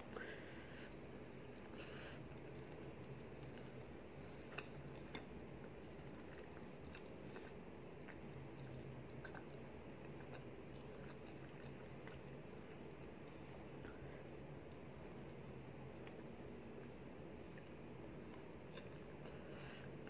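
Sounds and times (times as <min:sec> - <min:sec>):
person chewing: 0:00.9 - 0:19.4.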